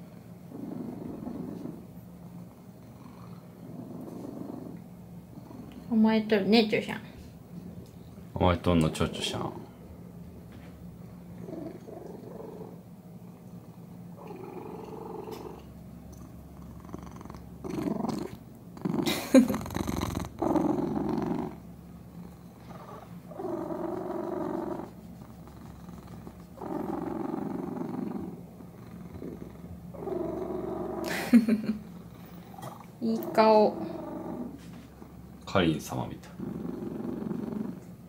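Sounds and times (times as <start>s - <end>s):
cat purring loudly: 0.0s - 6.0s, 11.3s - 38.0s.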